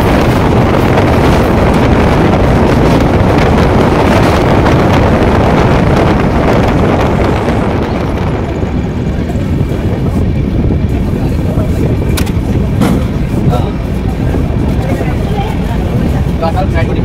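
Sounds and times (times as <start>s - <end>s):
train rumbling at speed: 0.0s - 17.0s
wind buffeting microphone: 0.0s - 17.0s.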